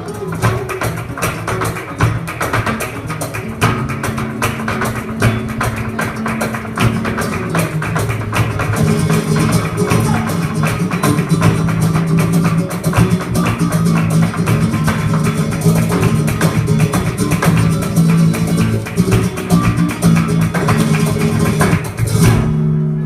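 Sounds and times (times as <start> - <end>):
flamenco guitar music: 0.0 - 23.0.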